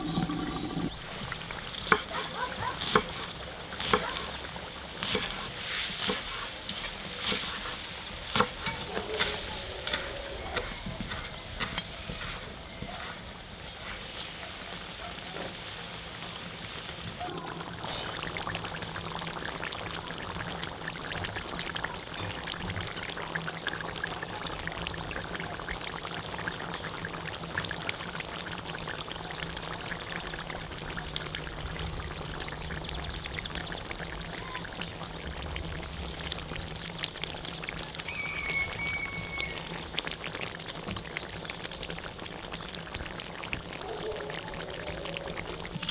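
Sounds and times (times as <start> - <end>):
pot simmering and sizzling: 0.0 - 45.9.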